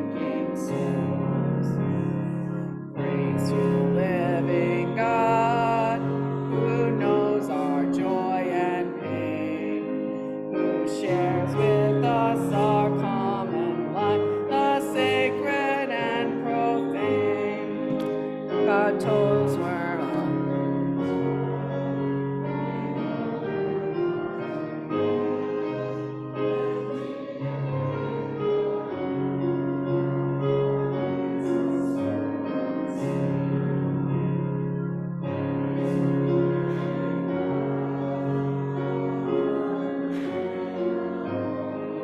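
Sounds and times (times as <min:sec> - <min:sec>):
congregation singing a hymn: 0:00.0 - 0:42.0
piano accompaniment: 0:00.0 - 0:42.0.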